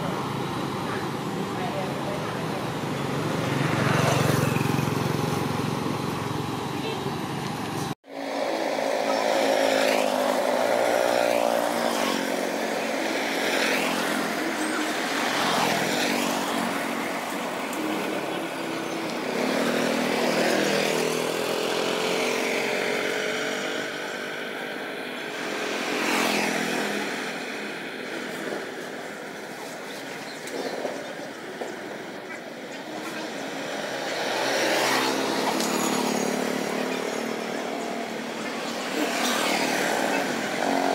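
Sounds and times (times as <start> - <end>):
motorbikes riding past: 0.0 - 40.9.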